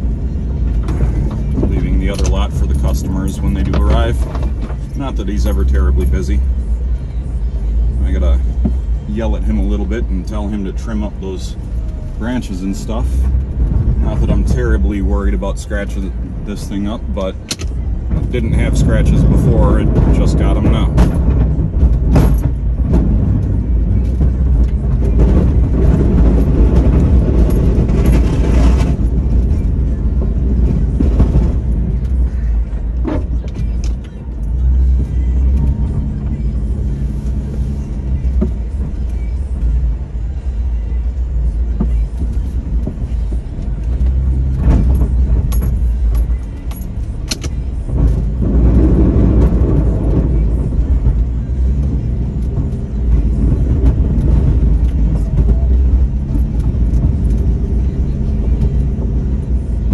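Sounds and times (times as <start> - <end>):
engine rumbling under load: 0.0 - 59.9.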